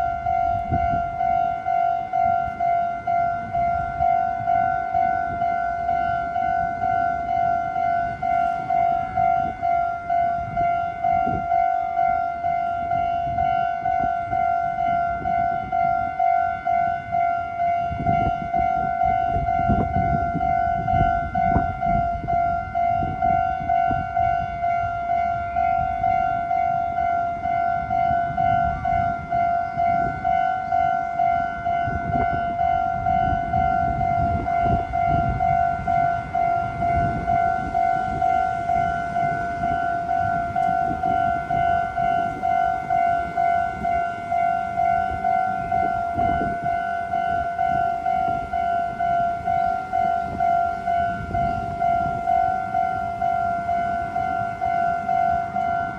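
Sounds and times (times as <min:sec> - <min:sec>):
railroad crossing alarm ringing: 0:00.0 - 0:55.9.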